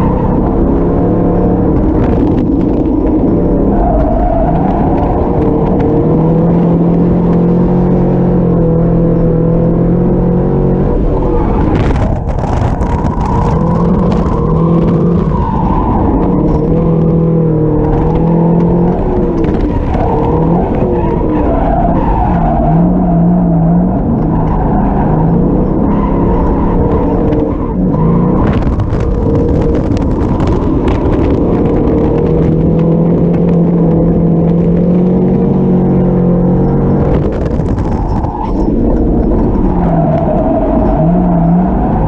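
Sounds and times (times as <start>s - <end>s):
car engine revving: 0.0s - 42.0s
tyres skidding: 0.0s - 42.0s.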